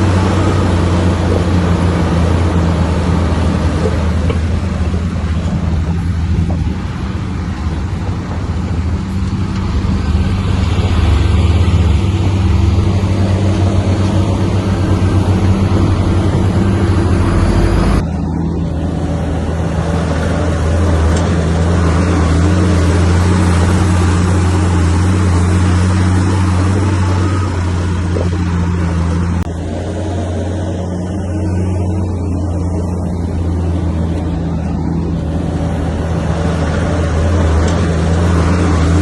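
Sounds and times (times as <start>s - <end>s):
heavy diesel engine under load: 0.0s - 39.0s.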